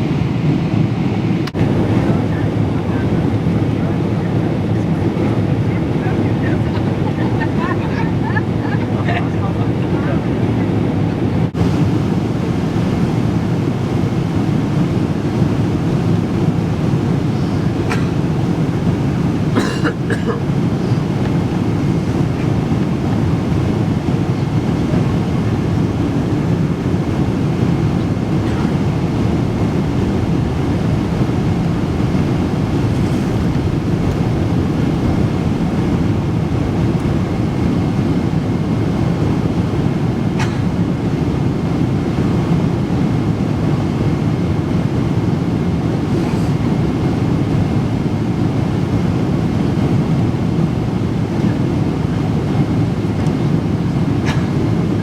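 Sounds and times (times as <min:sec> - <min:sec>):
jet cabin engine and airflow noise: 0:00.0 - 0:55.0.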